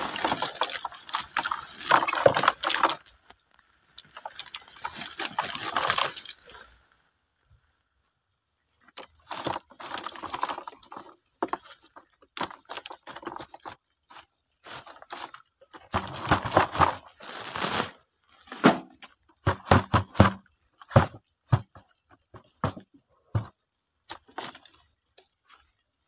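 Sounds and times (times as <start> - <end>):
charcoal clattering in plastic bucket: 0.0 - 6.7, 8.9 - 24.8.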